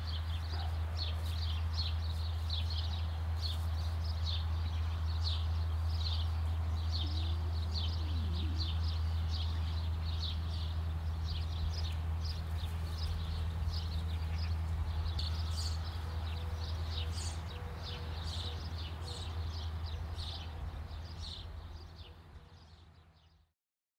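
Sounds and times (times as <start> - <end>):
steady low hum: 0.0 - 22.7.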